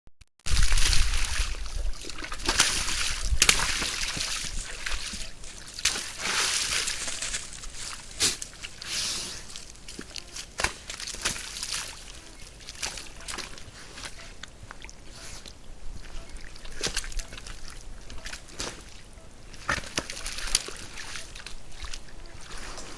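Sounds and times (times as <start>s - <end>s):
hooves splashing through water: 0.5s - 22.9s
hooves sucking mud: 0.5s - 22.9s.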